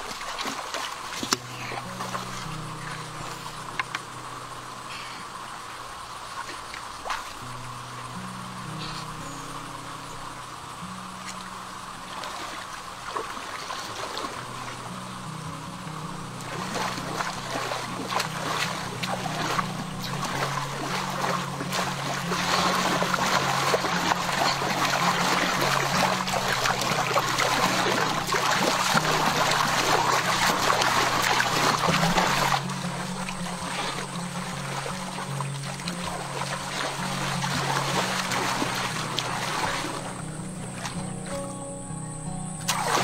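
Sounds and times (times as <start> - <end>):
hands splashing river water: 0.0 - 4.2, 6.1 - 7.8, 11.2 - 15.0, 16.2 - 41.4, 42.6 - 43.0
background music with low notes: 1.2 - 5.4, 7.4 - 13.2, 14.2 - 43.0.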